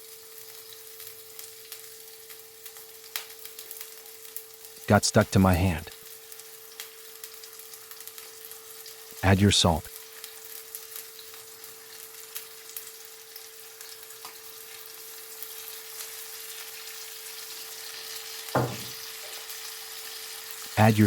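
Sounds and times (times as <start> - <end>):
food sizzling in a pan: 0.0 - 4.9, 5.8 - 9.2, 9.8 - 20.8.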